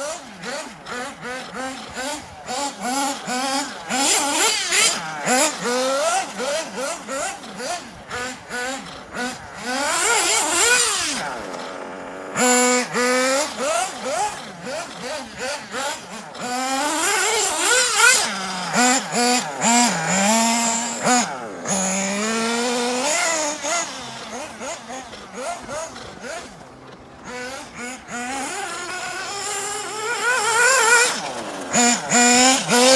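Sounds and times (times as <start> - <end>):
model car engine revving: 0.0 - 32.9.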